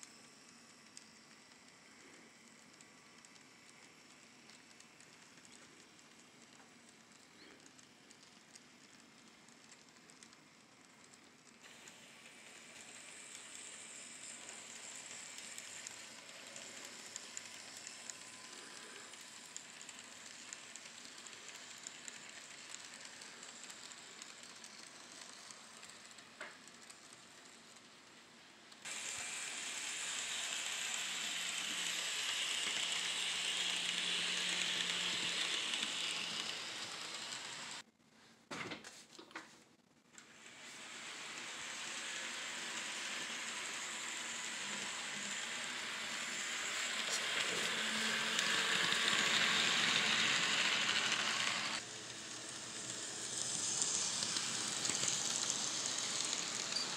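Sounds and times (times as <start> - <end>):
model trains rolling hiss: 0.0 - 37.8, 40.2 - 56.9.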